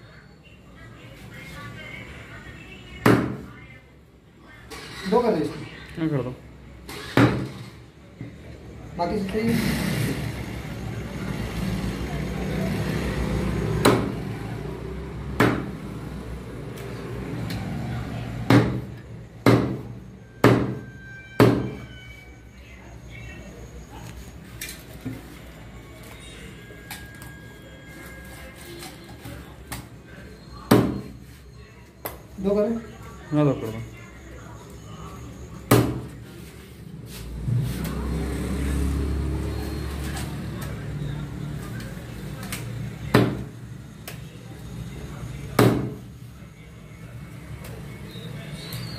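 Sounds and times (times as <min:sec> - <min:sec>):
steady background noise: 0:00.0 - 0:48.9.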